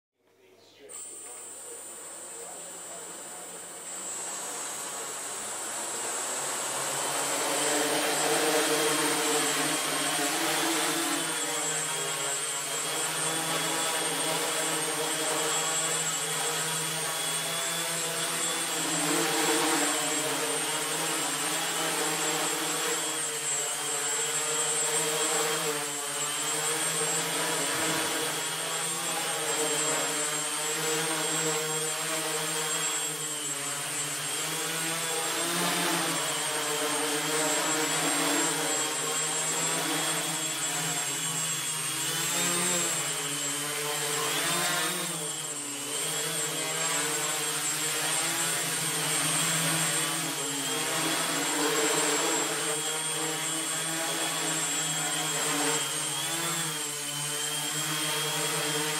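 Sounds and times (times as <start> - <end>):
quadcopter motors buzzing: 0.7 - 58.9.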